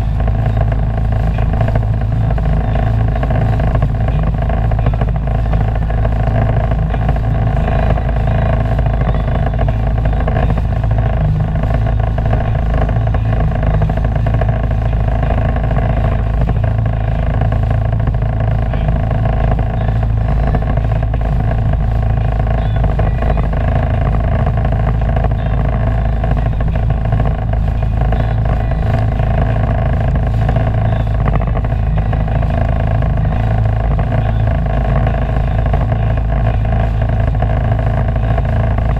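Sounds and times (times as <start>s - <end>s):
personal watercraft engine running: 0.0s - 38.9s.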